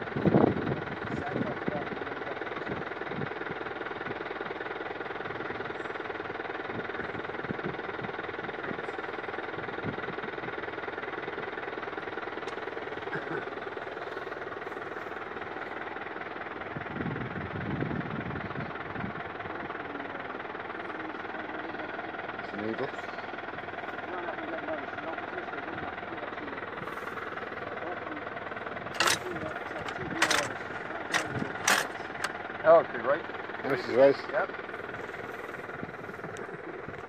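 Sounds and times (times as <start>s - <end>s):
engine running: 0.0s - 37.0s
low engine rumbles: 0.0s - 37.0s.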